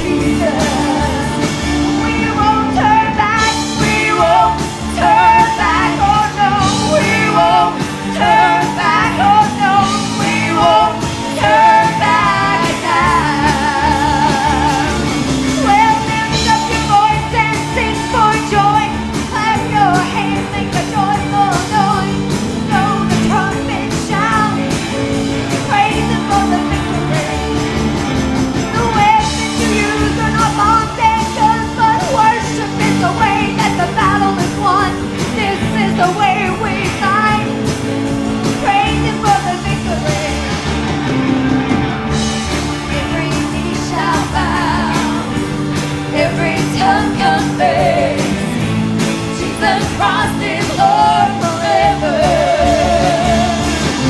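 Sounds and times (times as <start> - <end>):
gospel singing over a band: 0.0 - 54.0
steady drum beat: 0.0 - 54.0.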